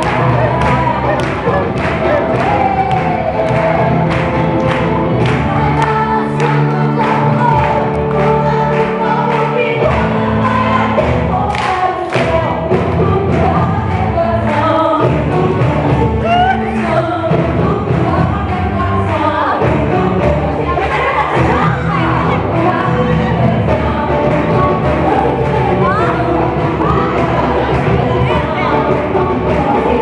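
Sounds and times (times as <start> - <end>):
choir singing gospel music: 0.0 - 30.0.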